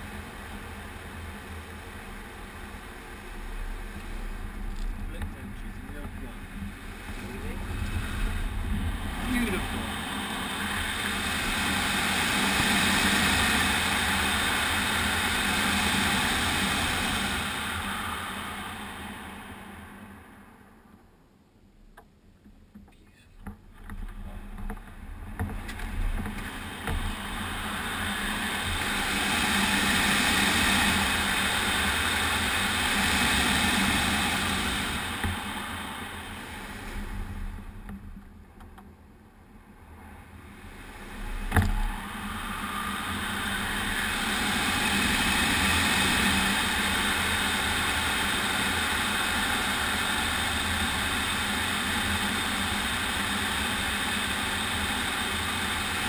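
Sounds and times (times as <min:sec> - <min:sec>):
airflow rushing over canopy: 0:00.0 - 0:20.6, 0:23.9 - 0:38.4, 0:40.0 - 0:56.0.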